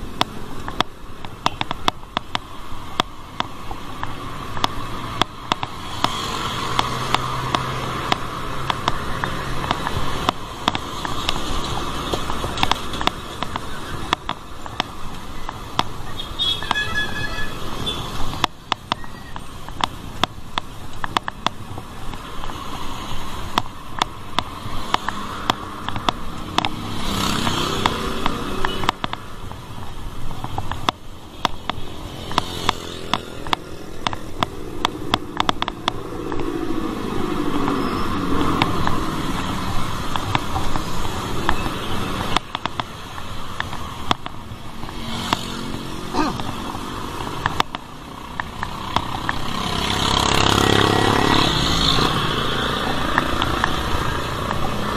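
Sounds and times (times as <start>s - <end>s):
motor vehicles passing: 0.0s - 54.9s
wind and road noise: 0.0s - 54.9s
small clicks and knocks: 0.1s - 16.0s, 18.2s - 22.8s, 23.5s - 36.7s, 38.4s - 45.7s, 46.4s - 54.9s.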